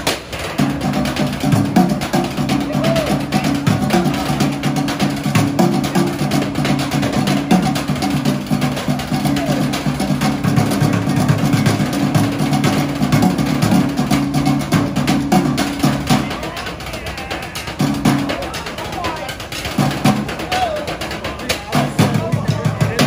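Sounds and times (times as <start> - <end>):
group drumming fast rhythm: 0.0 - 23.0.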